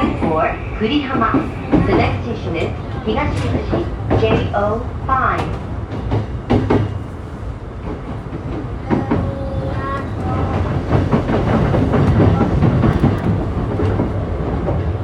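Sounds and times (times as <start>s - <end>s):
train wheels rumbling on rail: 0.0s - 15.0s
clacks over rail joints: 1.1s - 7.2s, 7.8s - 15.0s.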